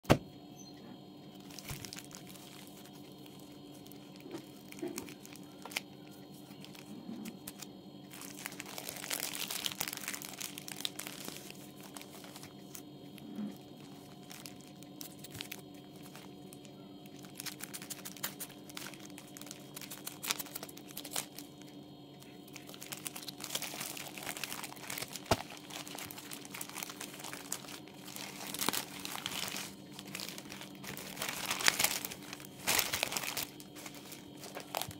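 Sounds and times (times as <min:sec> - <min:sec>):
plastic bag crinkling: 0:01.3 - 0:34.9.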